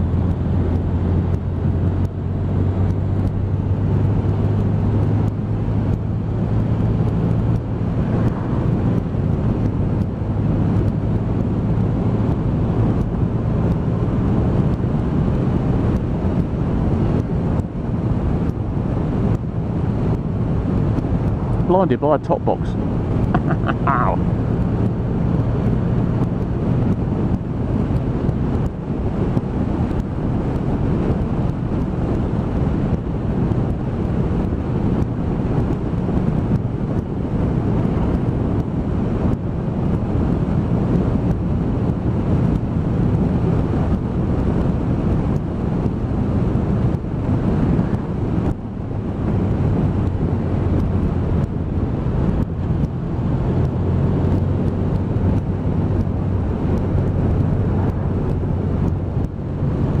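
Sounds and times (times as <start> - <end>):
wind rushing over microphone: 0.0 - 60.0.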